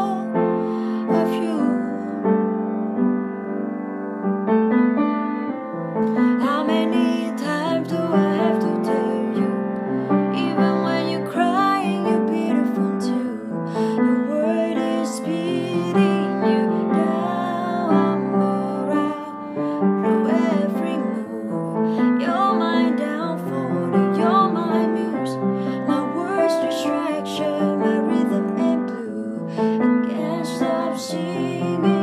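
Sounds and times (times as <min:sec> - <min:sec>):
woman singing with vibrato: 0:00.0 - 0:02.3, 0:06.1 - 0:32.0
piano chords: 0:00.0 - 0:32.0.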